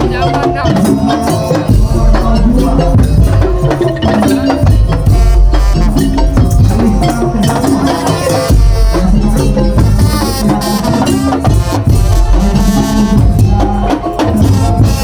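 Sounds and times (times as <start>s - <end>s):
heavy bass beat: 0.0s - 15.0s
percussion ensemble playing: 0.0s - 15.0s
wooden slit drums: 0.0s - 15.0s.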